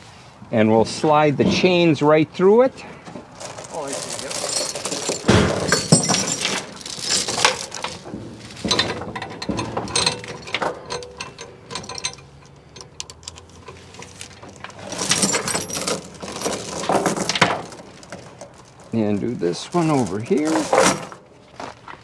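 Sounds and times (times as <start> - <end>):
chain links clinking: 3.4 - 21.3.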